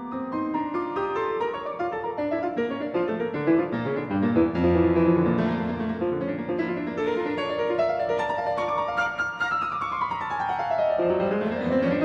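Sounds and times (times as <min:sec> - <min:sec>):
classical piano quick runs: 0:00.0 - 0:12.0.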